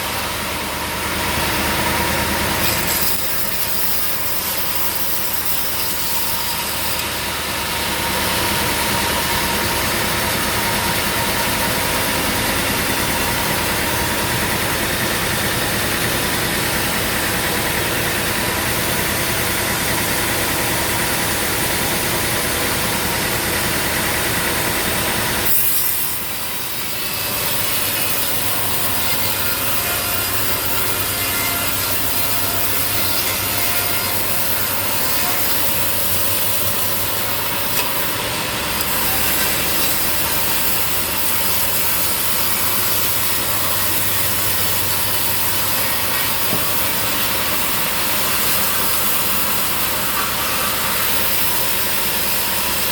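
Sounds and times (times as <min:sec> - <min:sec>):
saw cutting through log: 0:00.0 - 0:52.9.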